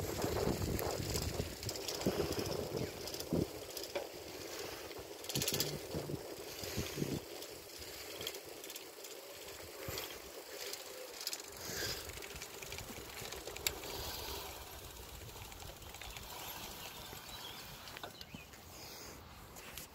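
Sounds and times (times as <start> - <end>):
bicycle tyre and frame noise: 0.0 - 19.9.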